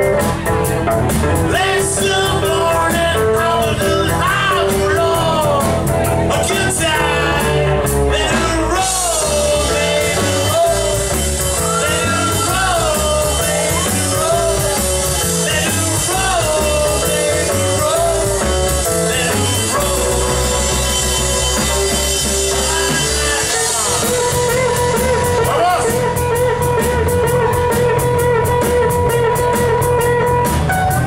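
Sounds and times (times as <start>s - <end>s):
lead guitar melody bending: 0.0s - 31.0s
rock band playing: 0.0s - 31.0s.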